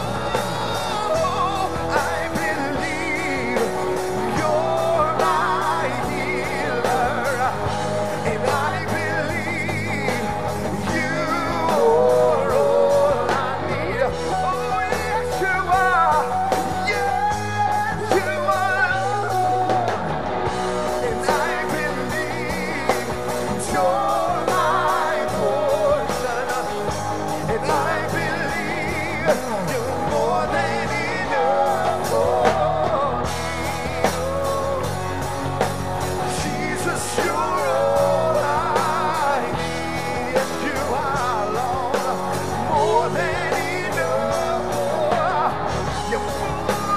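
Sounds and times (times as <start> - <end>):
electric guitars: 0.0 - 46.9
keyboard: 0.0 - 46.9
man singing: 0.0 - 46.9
steady drum beat: 0.0 - 46.9.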